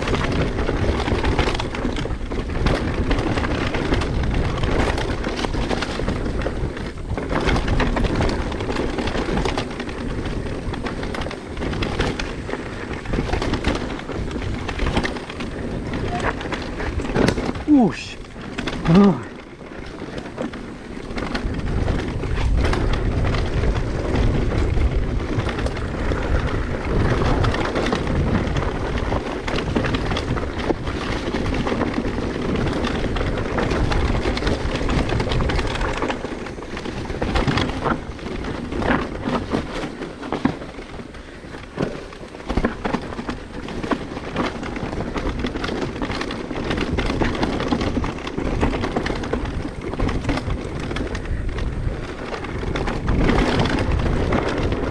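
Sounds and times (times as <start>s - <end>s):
bike clicks and rattles: 0.0s - 54.9s
bike tyre rumble: 0.0s - 54.9s
wind buffeting microphone: 0.0s - 54.9s.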